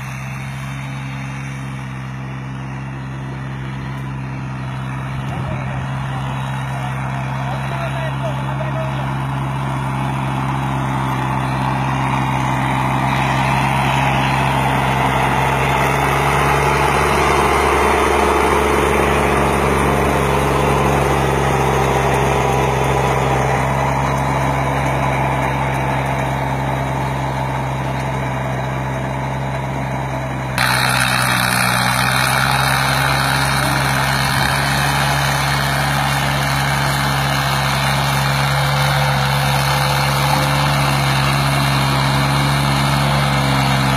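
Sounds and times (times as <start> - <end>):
small diesel tractor engine running: 0.0 - 43.9.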